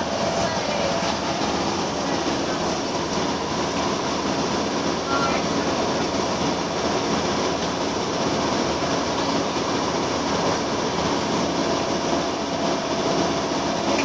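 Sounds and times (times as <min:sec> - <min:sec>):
bus cabin noise: 0:00.0 - 0:14.0.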